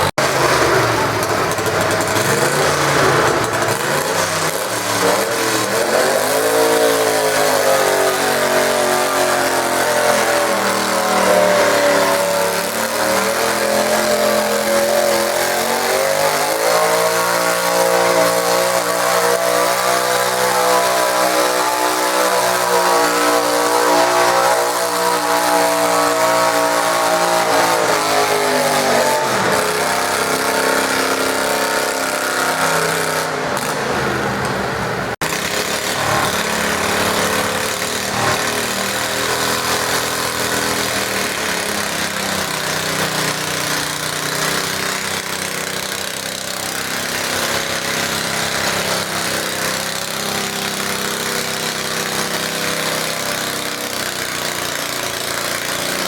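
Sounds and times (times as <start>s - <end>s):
garden tractor engine under load: 0.0s - 56.0s.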